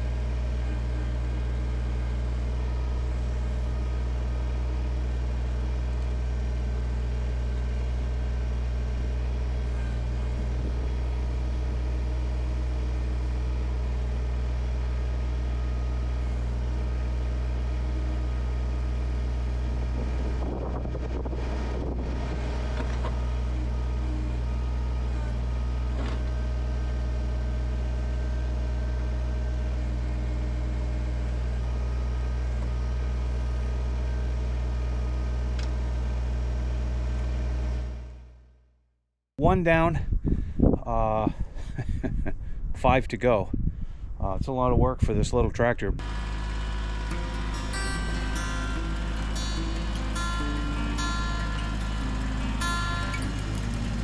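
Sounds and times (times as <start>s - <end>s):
tractor diesel engine running: 0.0s - 35.5s, 46.0s - 54.0s.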